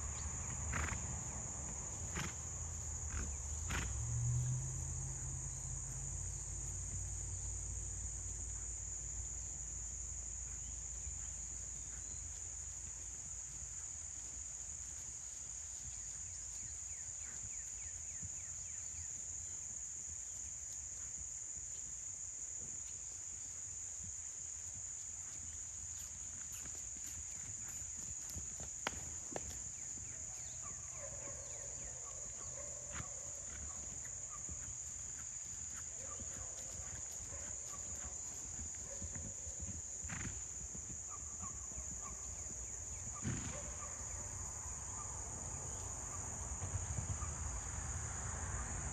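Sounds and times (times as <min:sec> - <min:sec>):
insects droning in grass: 0:00.0 - 0:48.9.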